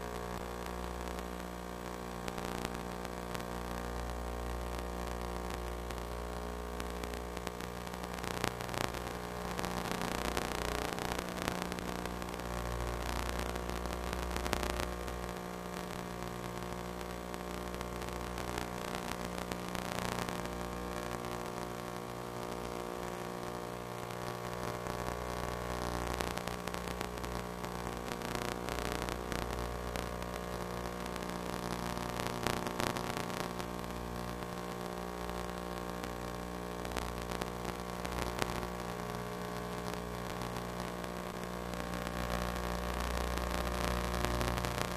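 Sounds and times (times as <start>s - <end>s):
buzzing mains hum: 0.0s - 44.9s
crackles: 0.0s - 44.9s
static hiss: 0.0s - 44.9s.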